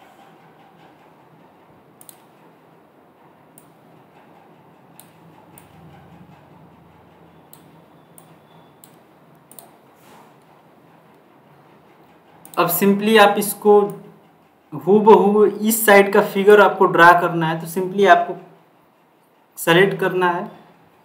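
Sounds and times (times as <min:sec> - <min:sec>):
faint room hum: 0:00.0 - 0:21.0.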